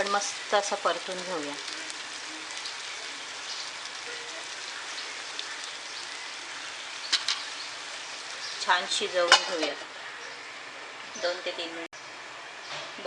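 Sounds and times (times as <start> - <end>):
paste frying in oil: 0.0 - 10.6.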